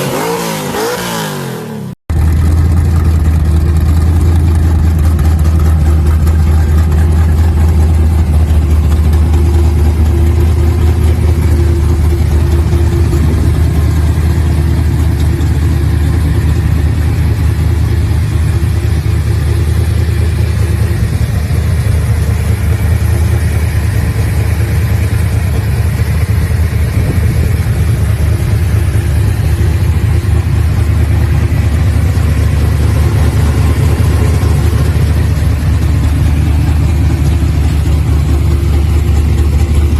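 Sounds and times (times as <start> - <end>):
car engine idling: 2.1 - 39.9.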